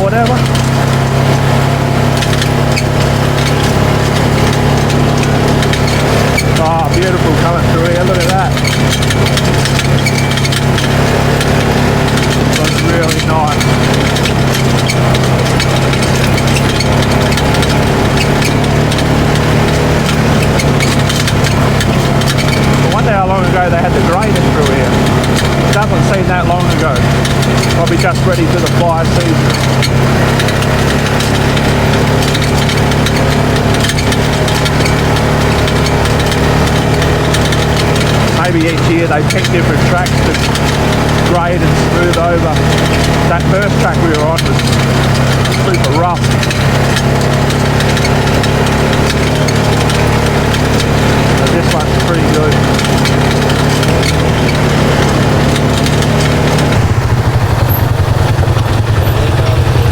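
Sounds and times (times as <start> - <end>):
clicks and rattles: 0.0 - 59.9
engine running steadily: 0.0 - 59.9.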